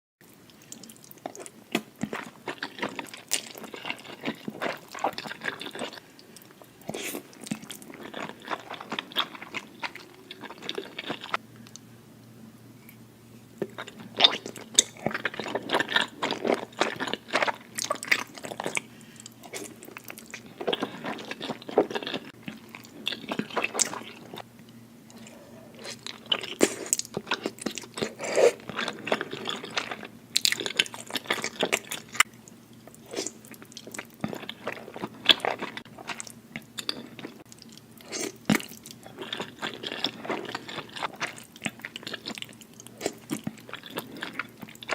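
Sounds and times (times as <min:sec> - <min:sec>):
person chewing crunchy food: 0:00.5 - 0:11.4, 0:13.6 - 0:44.9.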